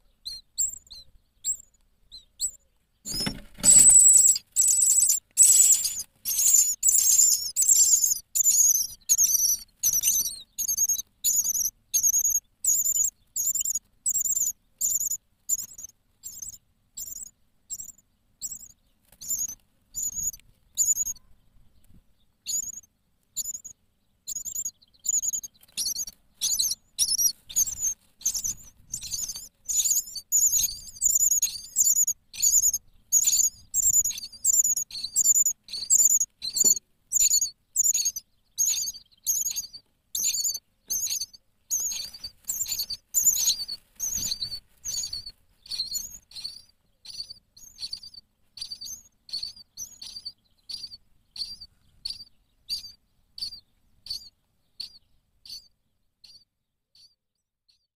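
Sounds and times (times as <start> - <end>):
nestlings begging calls: 0.0 - 21.4, 22.5 - 56.4
rustling of nest material: 0.0 - 23.7, 24.3 - 50.2.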